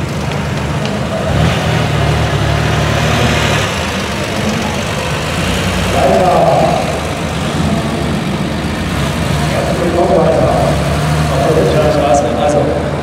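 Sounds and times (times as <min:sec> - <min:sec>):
car engine rumbling at low revs: 0:00.0 - 0:13.0.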